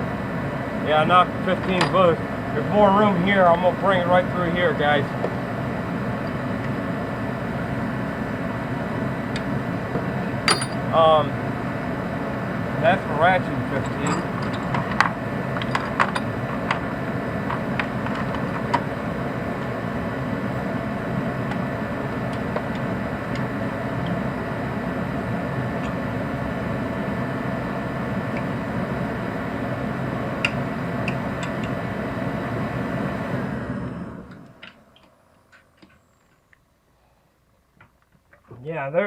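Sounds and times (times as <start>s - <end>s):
machine drone: 0.0s - 35.7s.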